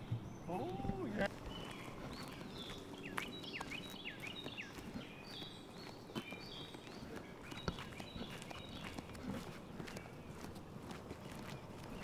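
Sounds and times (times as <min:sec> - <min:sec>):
birds chirping and whistling: 0:00.0 - 0:12.0
footsteps on asphalt: 0:00.8 - 0:12.0.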